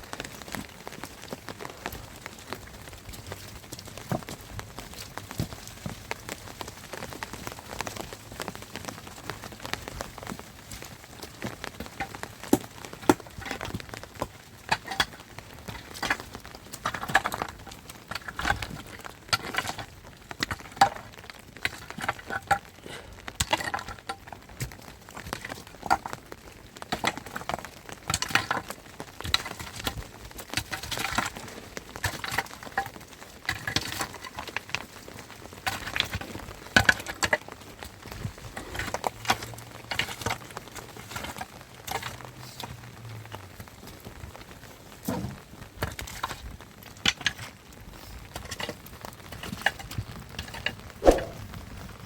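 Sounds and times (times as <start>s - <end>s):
rain pattering and dripping: 0.0s - 52.0s.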